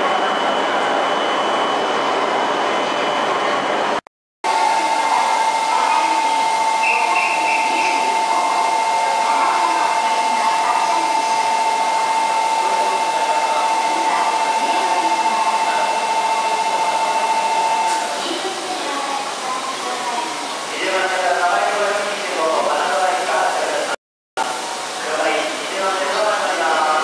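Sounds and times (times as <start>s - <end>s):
station platform noise: 0.0s - 27.0s.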